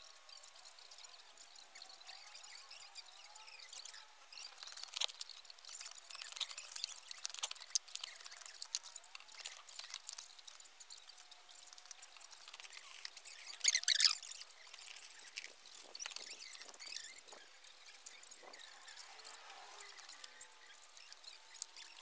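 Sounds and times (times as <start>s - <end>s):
rapid small clicks: 0.0s - 22.0s
squeaky chirps: 0.0s - 22.0s.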